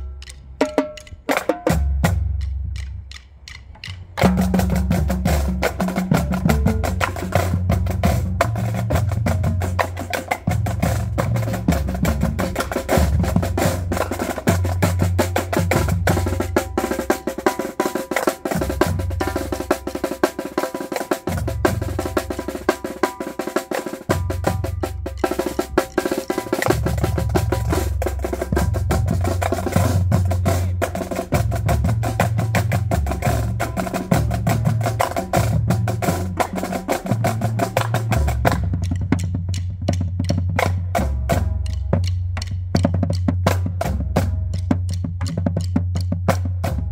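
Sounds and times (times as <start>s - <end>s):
low bass drum notes: 0.0s - 46.9s
snare drum rolls: 0.0s - 46.9s
tenor drums: 0.0s - 46.9s.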